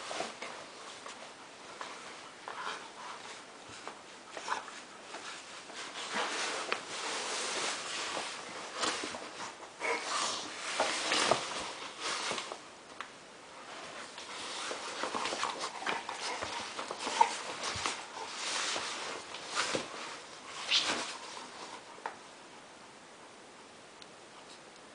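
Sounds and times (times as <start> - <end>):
dogs scuffling and rustling: 0.0 - 22.2.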